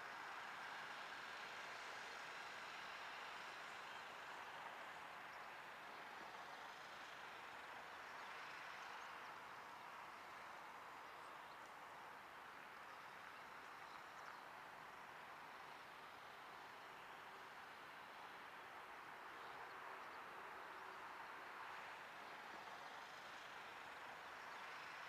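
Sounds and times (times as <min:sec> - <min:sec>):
faint outdoor rush: 0:00.0 - 0:25.0.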